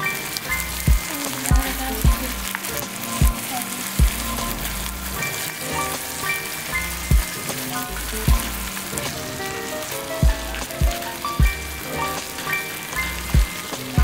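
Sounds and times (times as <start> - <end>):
sauce sizzling in a frying pan: 0.0 - 14.0
background music with drums: 0.4 - 14.0.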